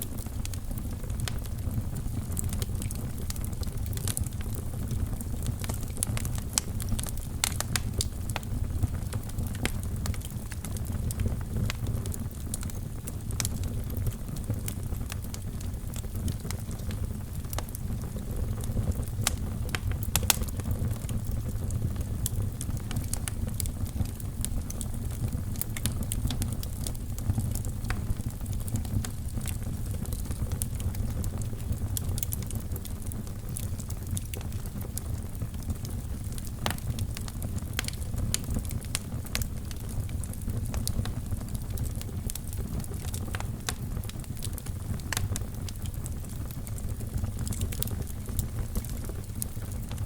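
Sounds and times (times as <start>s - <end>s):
fire crackling and popping: 0.0s - 50.0s
low rumble of flames: 0.0s - 50.0s.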